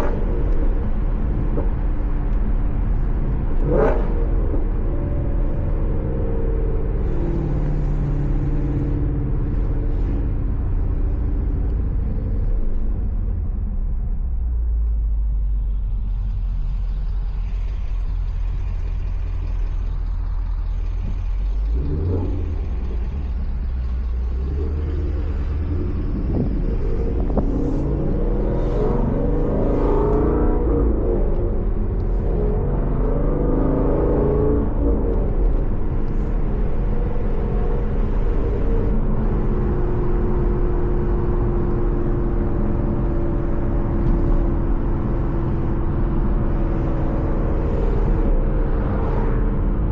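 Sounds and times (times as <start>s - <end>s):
car engine and exhaust while driving: 0.0s - 49.9s.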